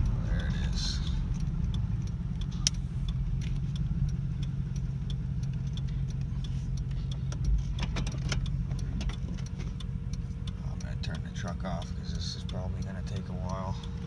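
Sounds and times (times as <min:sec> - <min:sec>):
light clicks and taps: 0:00.0 - 0:14.0
truck engine idling: 0:00.0 - 0:14.0.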